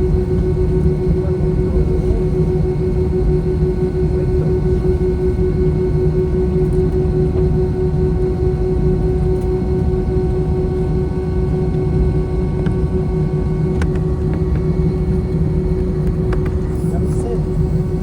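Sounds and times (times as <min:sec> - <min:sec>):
jet engine and airflow drone: 0:00.0 - 0:18.0.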